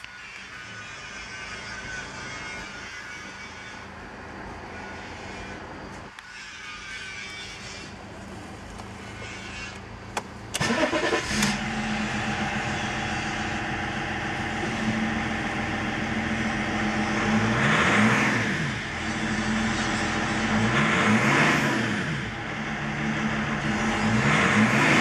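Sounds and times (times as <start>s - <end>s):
diesel engine idling and revving: 0.0s - 25.0s.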